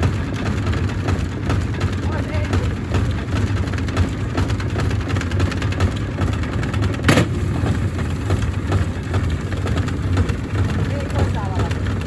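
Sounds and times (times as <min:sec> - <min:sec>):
washing machine drone: 0:00.0 - 0:12.0.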